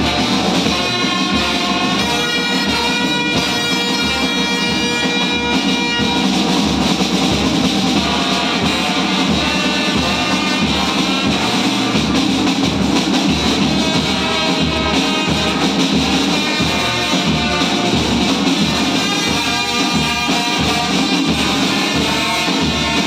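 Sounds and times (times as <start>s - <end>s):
bass drum and side drum beat: 0.0s - 23.0s
brass band playing: 0.0s - 23.0s.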